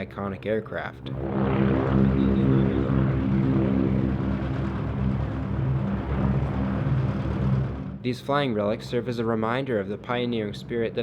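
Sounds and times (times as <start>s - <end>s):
propeller airplane engines droning: 1.0s - 11.0s.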